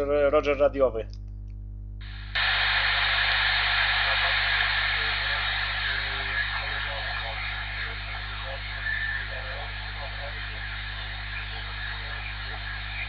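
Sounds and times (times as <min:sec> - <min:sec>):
mains hum: 0:00.0 - 0:13.0
radio static hiss: 0:02.0 - 0:13.0
faint distant radio voice: 0:02.1 - 0:13.0.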